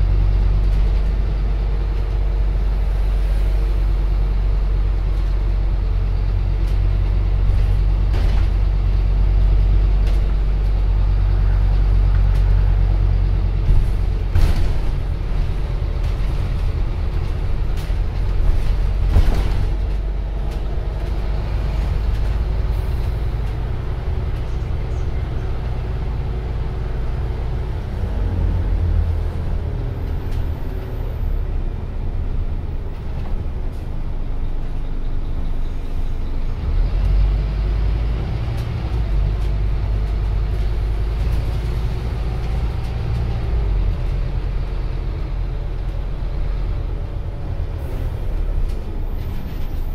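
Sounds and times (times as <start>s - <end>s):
bus engine low rumble: 0.0s - 49.9s.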